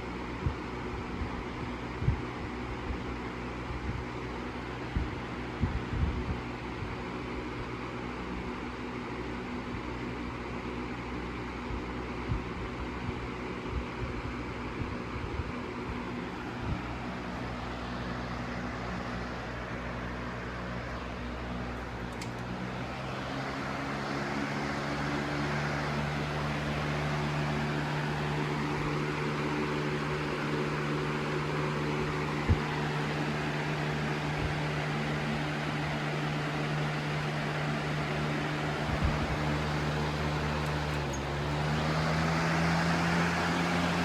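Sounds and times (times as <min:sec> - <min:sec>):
box fan running: 0:00.0 - 0:44.0.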